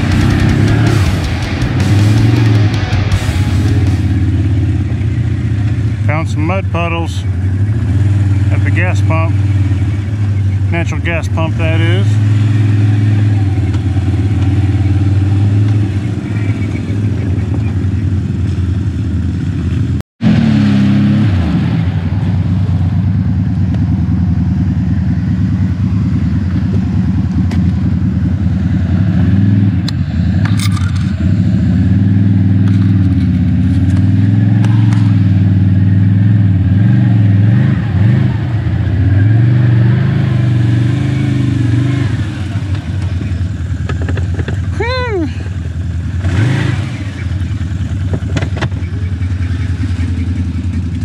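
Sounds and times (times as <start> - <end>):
atv engine revving: 0.0 - 51.0.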